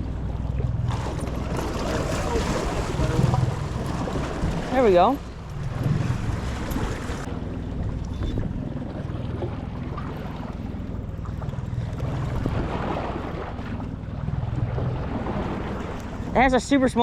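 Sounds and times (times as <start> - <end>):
boat motor droning: 0.0 - 17.0
water around hull: 0.0 - 17.0
wind buffeting microphone: 0.7 - 16.6.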